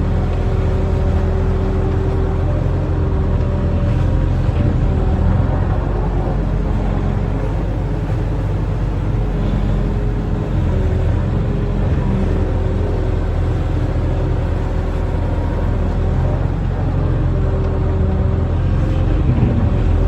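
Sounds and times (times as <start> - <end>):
excavator diesel engine droning: 0.0 - 20.0.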